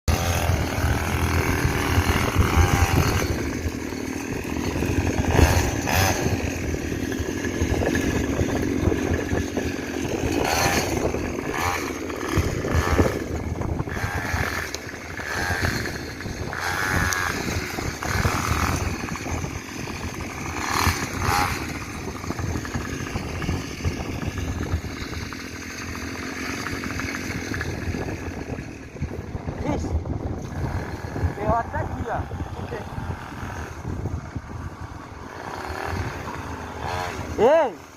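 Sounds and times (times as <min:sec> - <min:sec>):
mini motorbike engine revving: 0:00.0 - 0:37.9.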